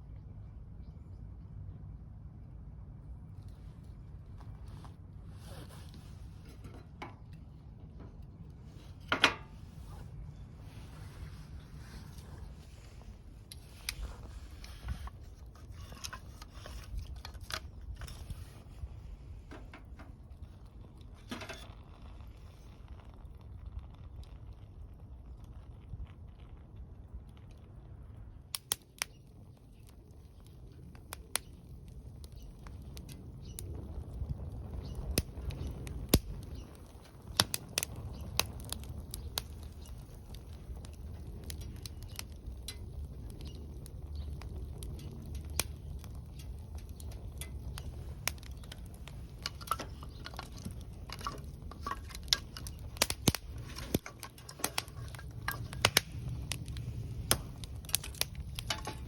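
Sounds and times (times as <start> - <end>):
fire popping: 2.4 - 59.0
wood fire crackling: 2.4 - 59.0.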